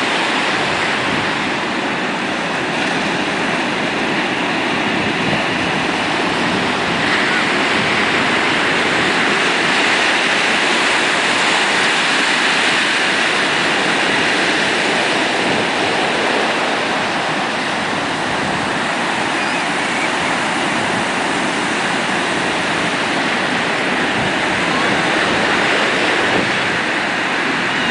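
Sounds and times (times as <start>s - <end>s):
ocean surf breaking: 0.0s - 27.9s.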